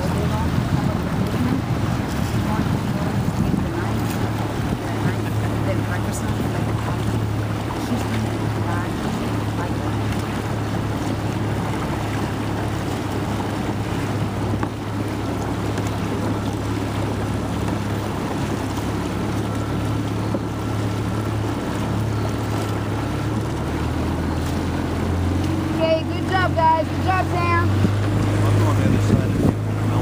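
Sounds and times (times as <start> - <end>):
motorboat engine humming: 0.0 - 30.0
water noise: 0.0 - 30.0
wind buffeting microphone: 0.0 - 30.0.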